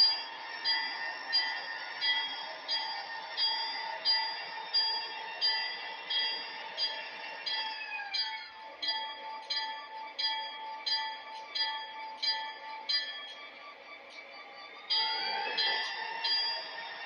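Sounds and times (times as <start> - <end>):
locomotive bell ringing: 0.0 - 17.0.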